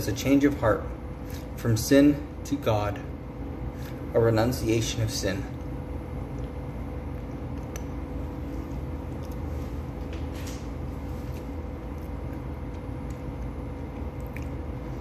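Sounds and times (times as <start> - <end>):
machinery hum and rumble: 0.0 - 15.0.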